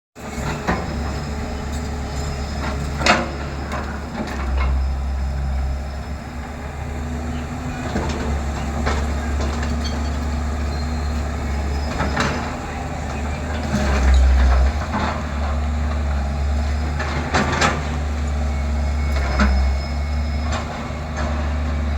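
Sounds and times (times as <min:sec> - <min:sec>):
heavy diesel machinery rumbling: 0:00.2 - 0:21.9.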